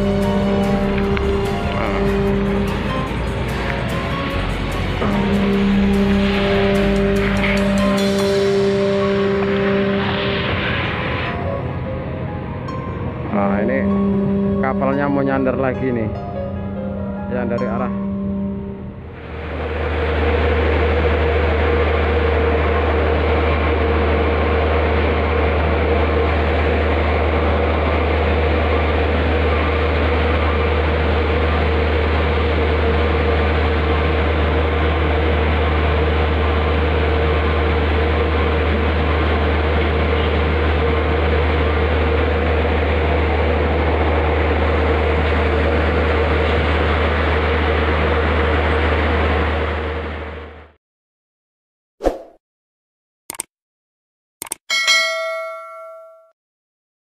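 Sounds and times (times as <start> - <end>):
ferry engines droning: 0.0 - 50.8.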